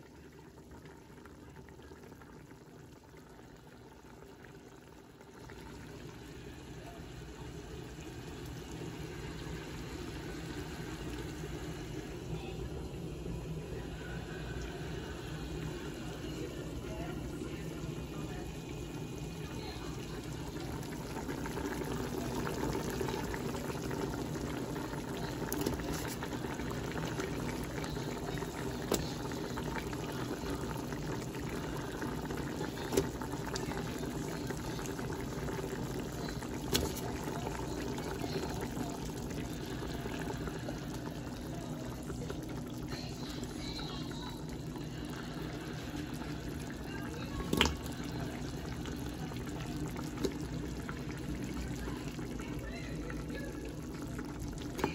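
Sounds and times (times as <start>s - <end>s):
broth bubbling in a pot: 0.0s - 54.9s.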